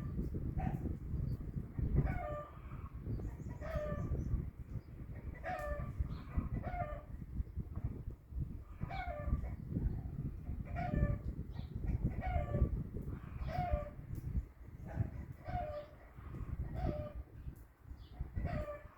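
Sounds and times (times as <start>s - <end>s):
chickens calling: 0.0s - 7.2s, 8.7s - 14.1s, 14.8s - 18.9s.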